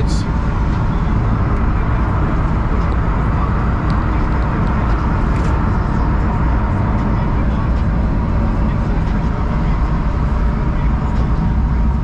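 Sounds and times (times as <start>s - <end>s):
engine drone: 0.0s - 12.0s
road noise: 0.0s - 12.0s.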